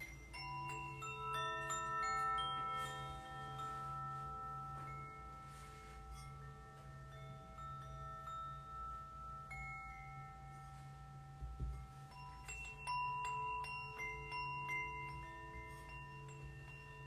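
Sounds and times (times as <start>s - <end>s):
tuned metal percussion ringing: 0.0s - 17.0s.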